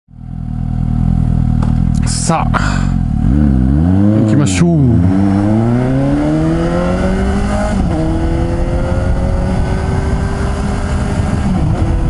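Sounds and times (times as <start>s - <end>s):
motorcycle engine accelerating: 0.1s - 12.0s.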